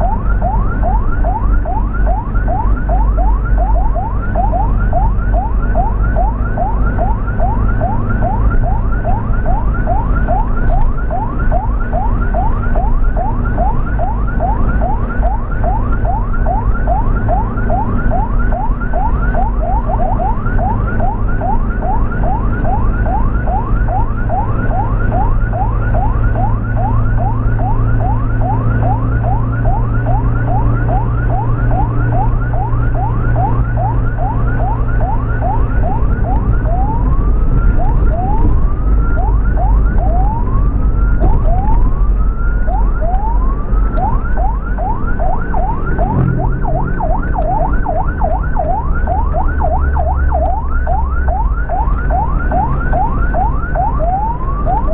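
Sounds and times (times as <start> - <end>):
ambulance siren yelping: 0.0 - 54.9
road noise: 0.0 - 54.9
vehicle engine rumble: 0.0 - 54.9.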